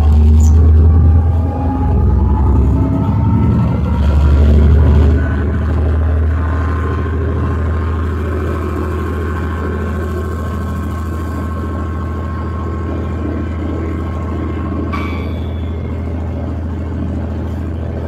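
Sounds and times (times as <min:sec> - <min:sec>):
diesel locomotive engine drone: 0:00.0 - 0:18.0
faint high whine: 0:00.0 - 0:18.0.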